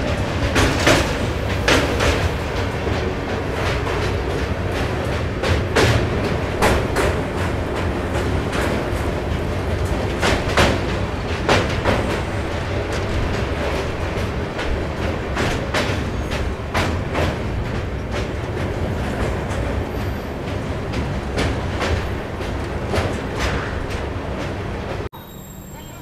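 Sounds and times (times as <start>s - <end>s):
wheels clacking over rail joints: 0.0s - 25.1s
train coach rolling rumble: 0.0s - 26.0s.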